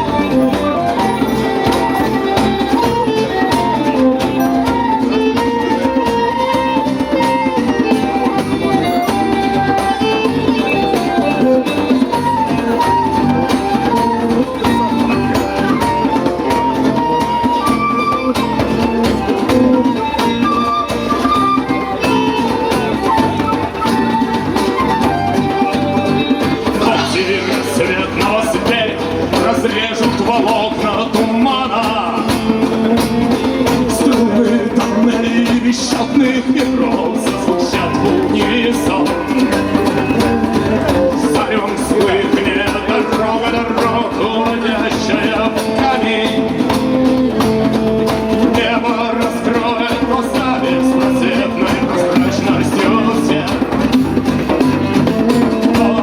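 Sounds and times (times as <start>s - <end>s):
live band with guitar: 0.0s - 56.0s.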